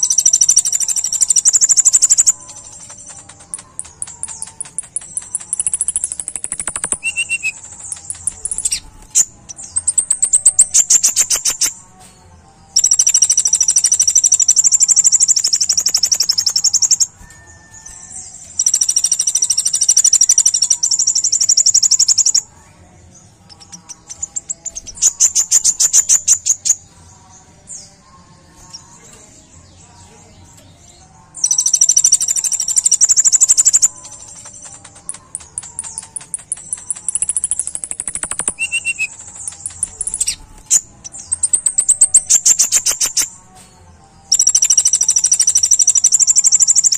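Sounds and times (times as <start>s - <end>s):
bird singing rapid trills: 0.0s - 46.9s.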